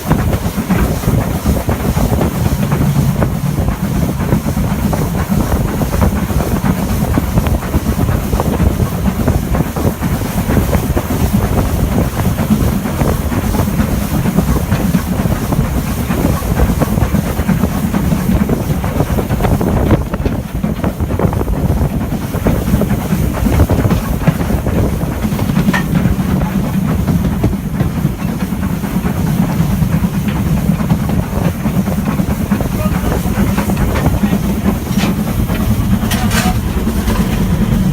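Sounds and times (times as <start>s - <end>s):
train wheels rattling on track: 0.0s - 37.9s.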